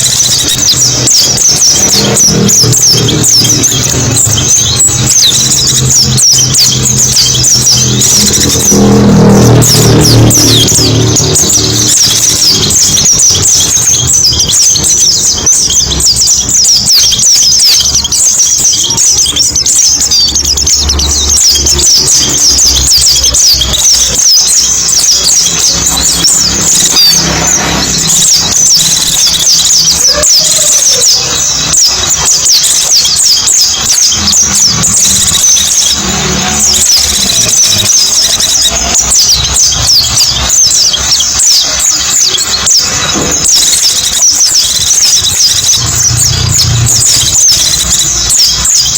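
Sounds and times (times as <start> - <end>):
birds twittering chirps: 0.0 - 48.9.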